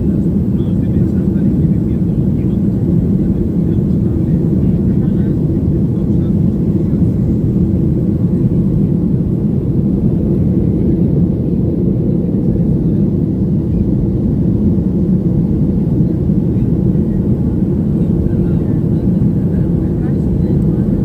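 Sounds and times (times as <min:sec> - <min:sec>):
jet engine and airflow rumble: 0:00.0 - 0:21.0.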